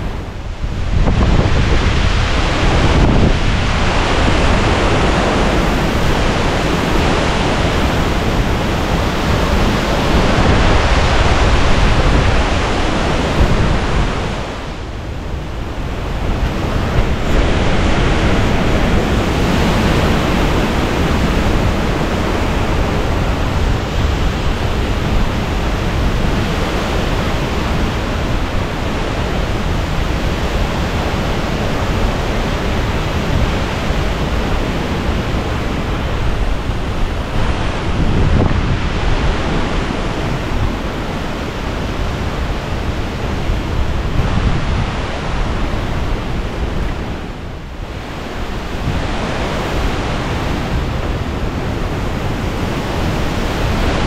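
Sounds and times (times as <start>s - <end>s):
hurricane wind rushing: 0.0s - 54.0s.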